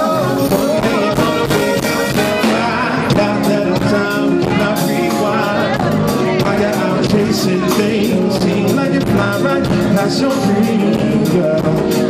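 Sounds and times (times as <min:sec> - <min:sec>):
live rhythm and blues band: 0:00.0 - 0:12.0.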